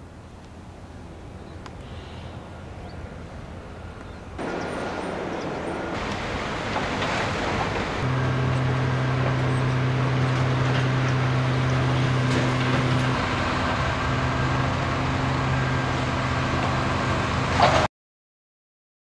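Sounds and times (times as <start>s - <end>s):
outdoor traffic noise: 0.0s - 17.9s
engine idling: 2.1s - 17.8s.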